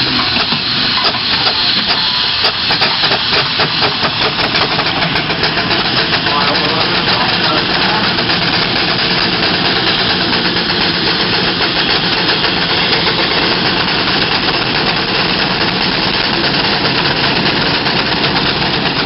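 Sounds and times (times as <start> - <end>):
steam traction engine working: 0.0 - 19.0.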